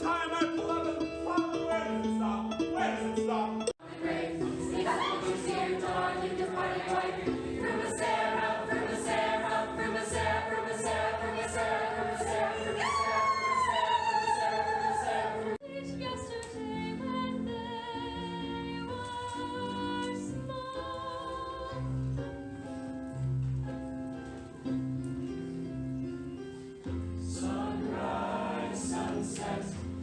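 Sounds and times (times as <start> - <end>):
choir singing with music: 0.0 - 22.9, 26.8 - 30.0.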